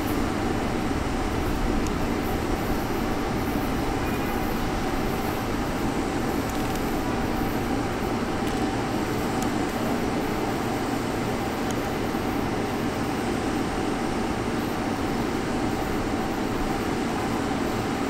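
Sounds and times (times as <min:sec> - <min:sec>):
trains rumbling: 0:00.0 - 0:18.0.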